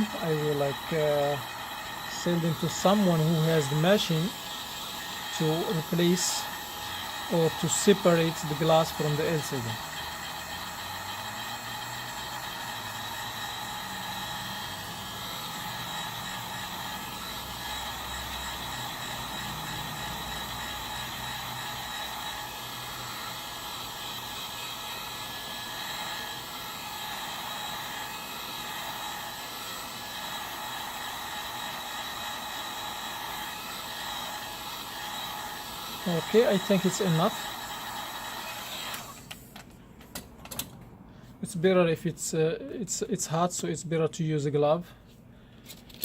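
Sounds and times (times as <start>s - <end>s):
heat gun running: 0.0s - 39.6s.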